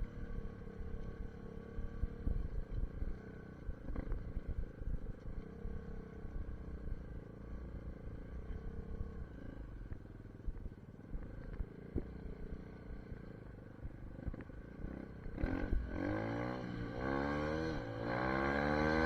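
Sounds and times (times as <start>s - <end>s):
motorbike engine idling and revving: 0.0s - 19.0s.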